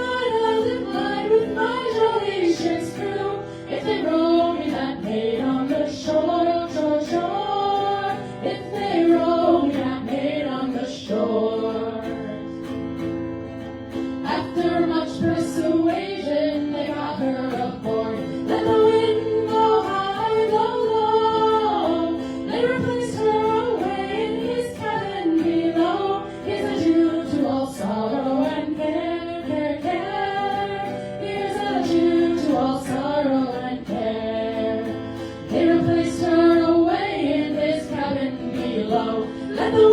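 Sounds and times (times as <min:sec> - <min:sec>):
women singing in harmony: 0:00.0 - 0:12.8, 0:14.0 - 0:39.9.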